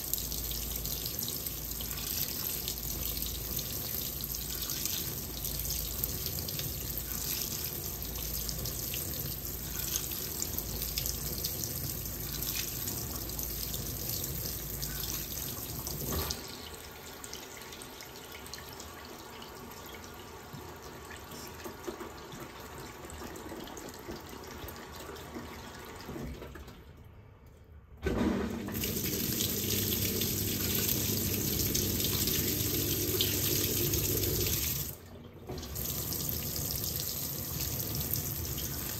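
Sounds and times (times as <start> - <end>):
water pouring into washing machine: 0.0 - 27.0, 28.0 - 38.9.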